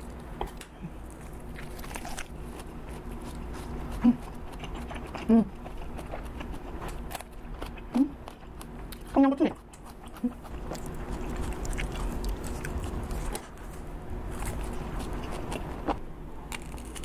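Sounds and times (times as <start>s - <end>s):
chewing and crunching: 0.0s - 17.0s.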